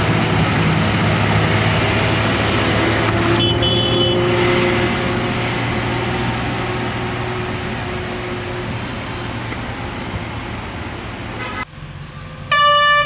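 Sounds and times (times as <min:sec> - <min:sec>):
lorry diesel engine droning: 0:00.0 - 0:13.0.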